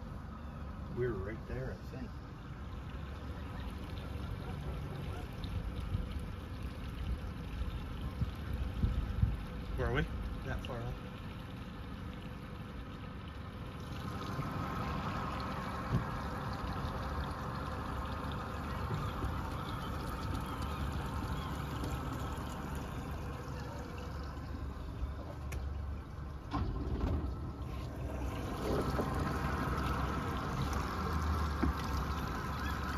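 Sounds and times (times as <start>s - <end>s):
low engine rumble: 0.0s - 32.9s
water rushing along a hull: 0.0s - 32.9s.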